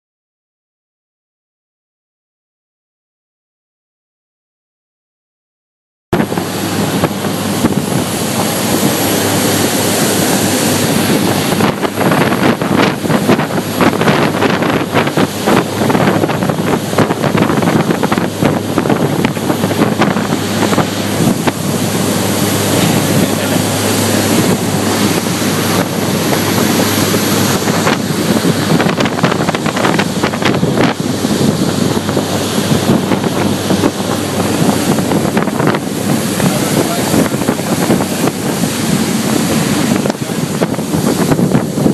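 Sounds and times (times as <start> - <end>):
low engine drone: 6.2 - 41.9
rushing water: 6.2 - 41.9
wind buffeting microphone: 6.2 - 41.9.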